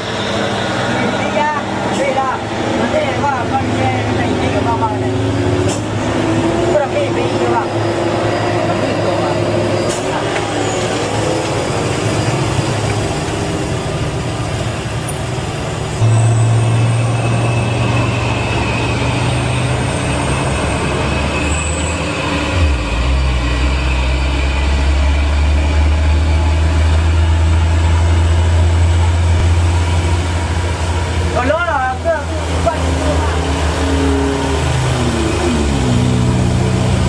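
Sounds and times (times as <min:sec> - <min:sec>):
truck diesel engine pulling hard: 0:00.0 - 0:37.0.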